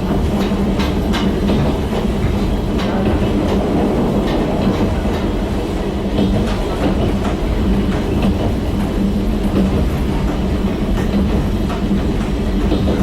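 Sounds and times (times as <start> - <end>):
rail-joint clicks: 0.0 - 13.0
train wheel rumble: 0.0 - 13.0.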